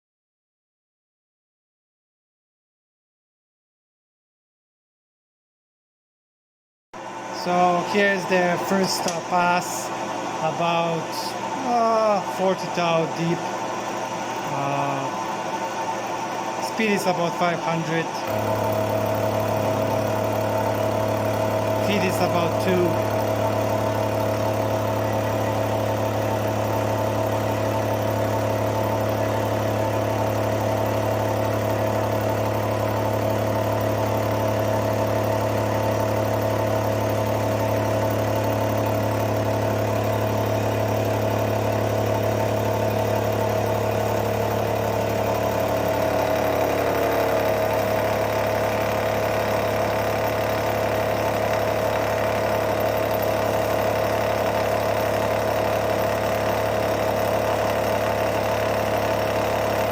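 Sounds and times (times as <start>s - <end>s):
milling machine cutting: 7.0s - 59.9s.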